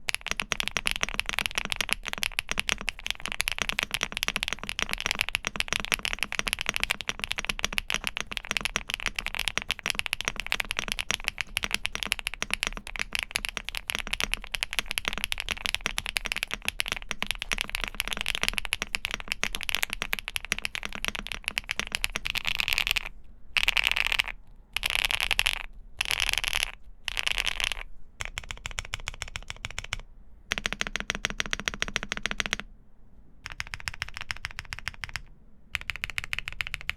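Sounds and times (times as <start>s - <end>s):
mechanical keyboard typing: 0.0s - 32.7s, 33.4s - 36.9s.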